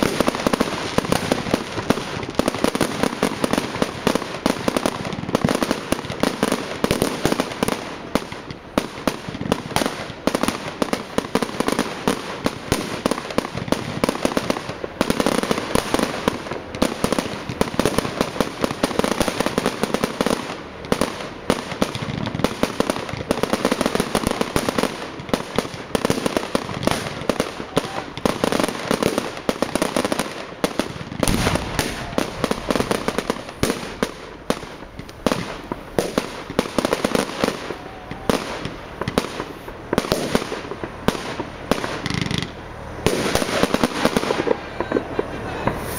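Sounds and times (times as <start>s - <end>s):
fireworks cracking and banging: 0.0s - 45.9s.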